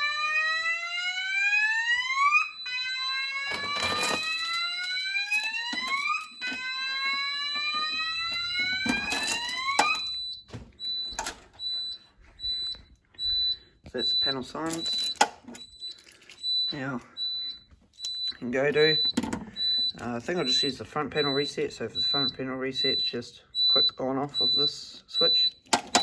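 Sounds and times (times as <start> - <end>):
fire alarm whooping: 0.0 - 26.0
high-pitched alarm tone: 0.0 - 26.0.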